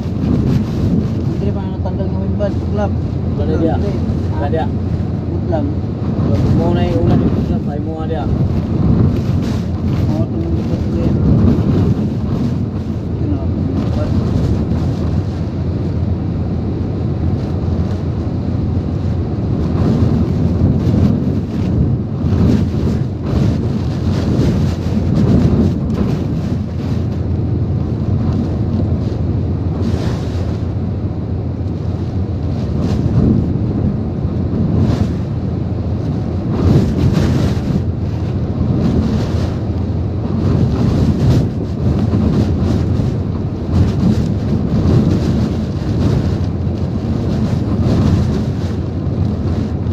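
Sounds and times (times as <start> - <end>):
strong wind gusting: 0.0 - 49.9
wind buffeting microphone: 0.0 - 49.9.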